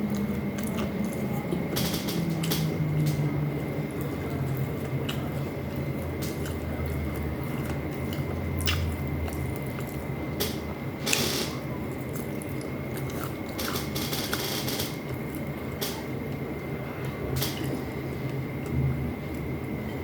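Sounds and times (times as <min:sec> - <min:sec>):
wet chewing and smacking: 0:00.0 - 0:03.3, 0:03.9 - 0:11.2, 0:11.8 - 0:16.0, 0:17.4 - 0:20.0.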